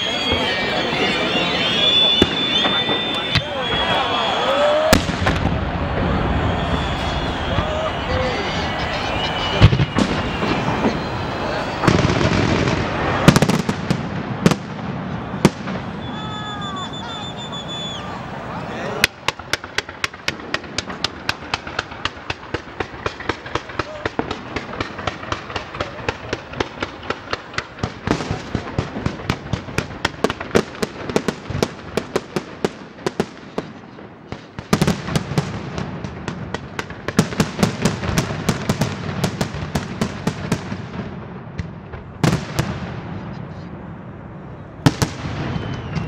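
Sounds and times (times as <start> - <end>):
fireworks bangs and crackles: 0.0 - 46.0
heavy fireworks rumble: 0.0 - 46.0.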